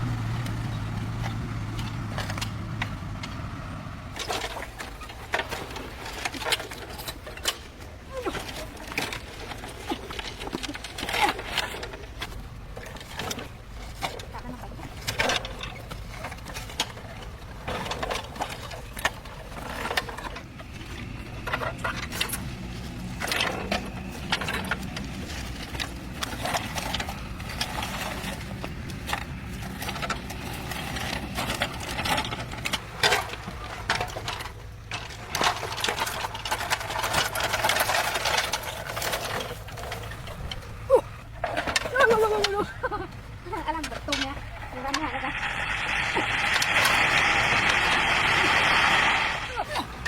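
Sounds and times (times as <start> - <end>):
engine running: 0.0 - 50.0.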